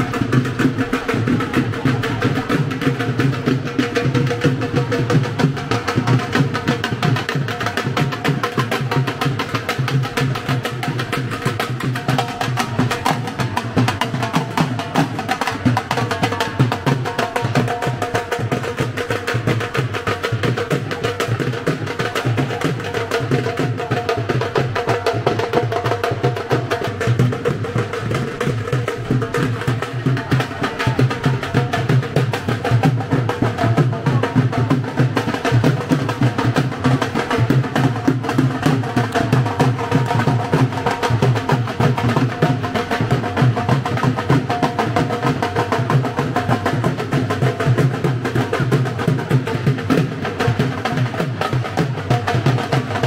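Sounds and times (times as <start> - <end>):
drums played fast: 0.0 - 53.0.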